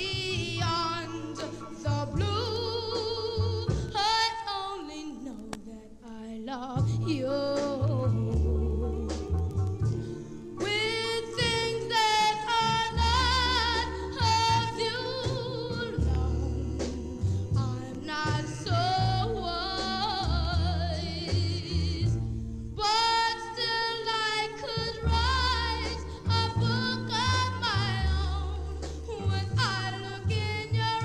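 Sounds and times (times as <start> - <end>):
pulsing bass line: 0.0 - 4.0, 6.8 - 31.0
doo-wop vocal group singing: 0.0 - 31.0.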